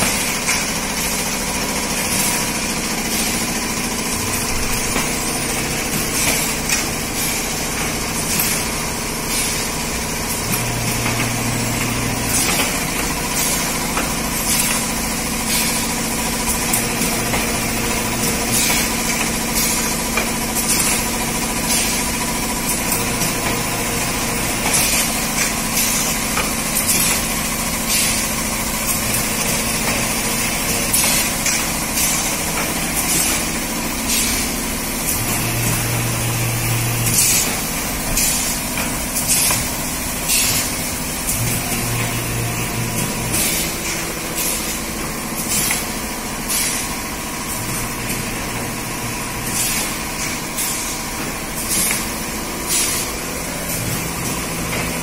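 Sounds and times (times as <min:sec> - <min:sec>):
machine hum: 0:00.0 - 0:55.0
sharp machine clacks or hisses: 0:00.0 - 0:55.0.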